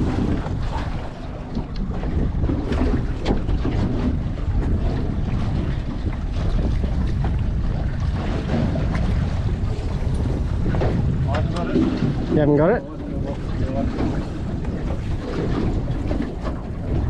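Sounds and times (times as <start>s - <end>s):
sea: 0.0s - 17.0s
wind rumbling on microphone: 0.0s - 17.0s.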